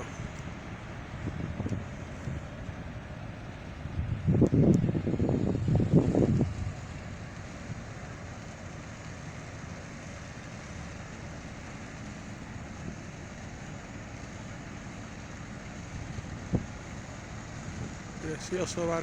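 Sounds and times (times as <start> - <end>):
outdoor rumble with hiss: 0.0 - 19.0.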